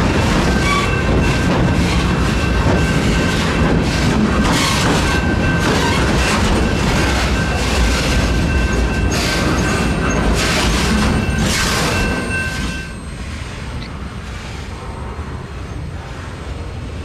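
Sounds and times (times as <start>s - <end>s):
steel wheels clattering on rails: 0.0s - 14.8s
freight train rumbling past: 0.0s - 17.0s.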